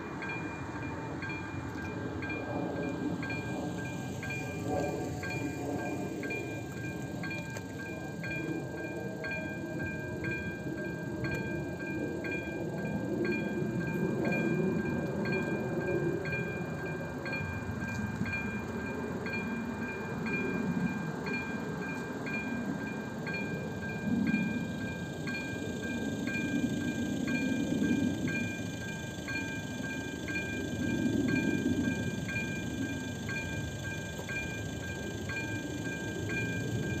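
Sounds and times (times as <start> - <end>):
constant high tone: 0.0 - 37.0.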